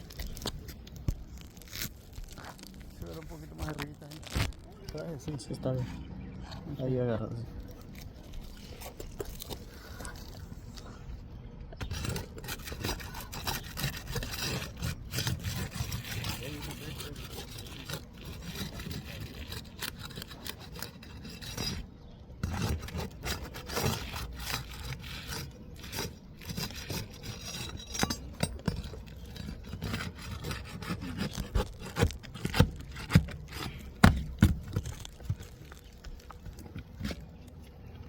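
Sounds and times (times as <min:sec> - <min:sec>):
scraping on shingles: 0:00.0 - 0:06.8, 0:11.8 - 0:37.8.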